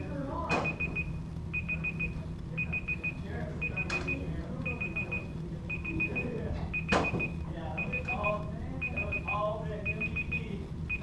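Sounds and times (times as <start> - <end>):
timer alarm beeping: 0.6 - 11.0.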